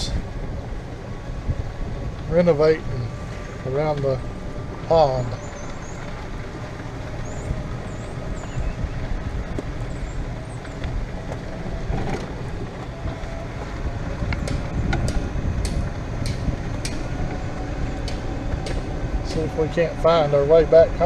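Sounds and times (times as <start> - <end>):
golf cart rumbling: 0.0 - 21.0
wind on microphone: 0.0 - 21.0.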